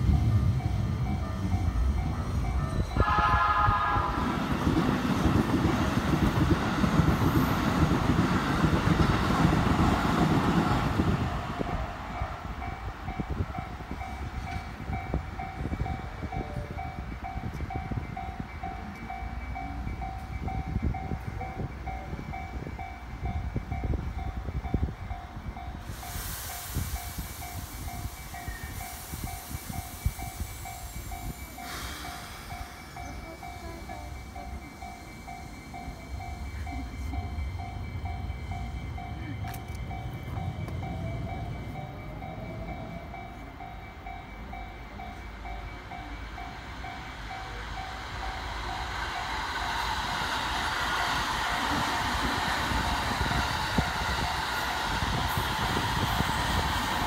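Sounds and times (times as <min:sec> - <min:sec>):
level crossing warning bell: 0:00.0 - 0:26.2, 0:26.8 - 0:57.0
train rumble: 0:00.0 - 0:57.0.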